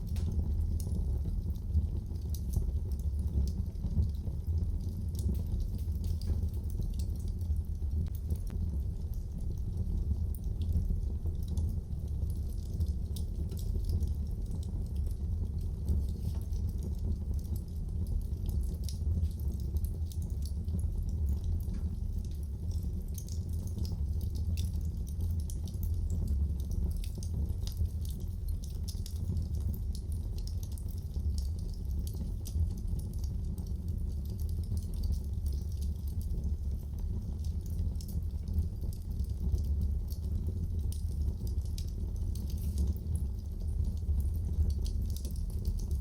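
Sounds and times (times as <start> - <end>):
fire crackling with pops: 0.0 - 46.0
steady low fire sound: 0.0 - 46.0.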